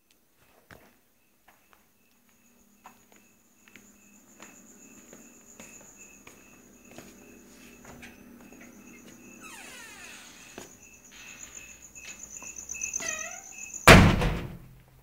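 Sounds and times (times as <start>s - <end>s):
lower cricket chirping: 0.0s - 14.5s
crickets trilling: 0.8s - 14.3s.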